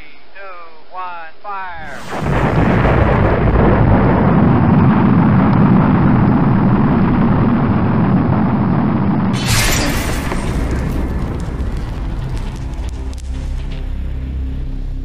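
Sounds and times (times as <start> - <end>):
sharp crackling burst: 1.9 - 14.5
rocket rumbling roar: 1.9 - 15.0.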